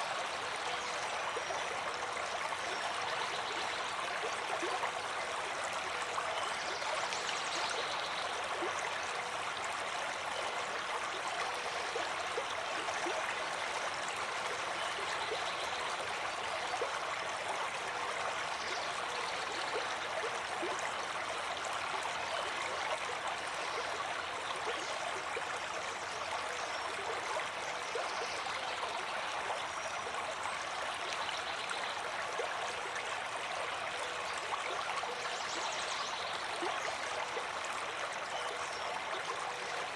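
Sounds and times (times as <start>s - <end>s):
small splashes and trickles: 0.0s - 39.9s.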